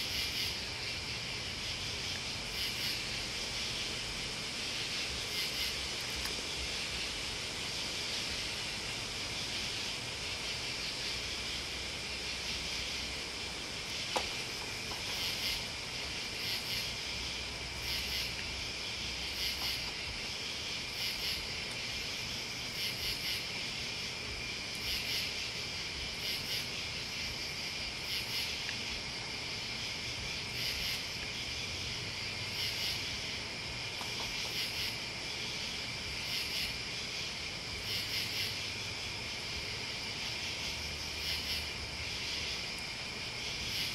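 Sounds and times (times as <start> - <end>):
crickets and night insects trilling: 0.0 - 43.9.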